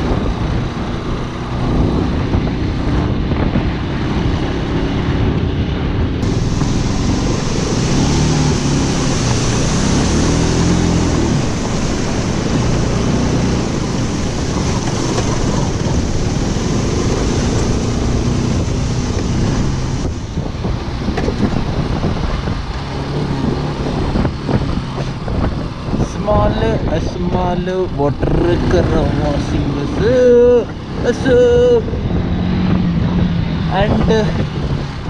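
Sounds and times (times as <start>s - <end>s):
motorcycle engine revving: 0.0s - 26.8s, 28.0s - 35.0s
wind noise on microphone: 0.0s - 35.0s.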